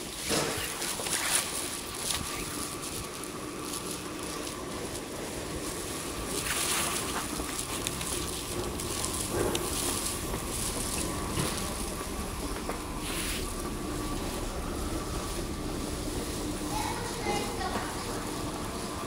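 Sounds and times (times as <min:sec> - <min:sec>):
station hall hiss and hum: 0:00.0 - 0:19.0
footsteps: 0:00.3 - 0:19.0.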